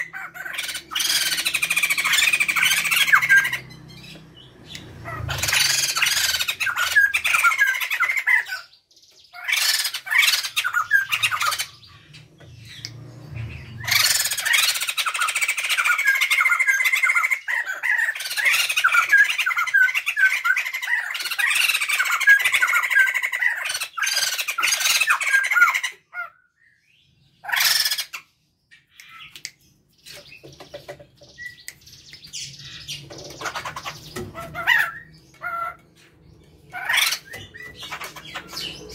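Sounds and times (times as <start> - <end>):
birds calling in rapid bursts: 0.0 - 38.9.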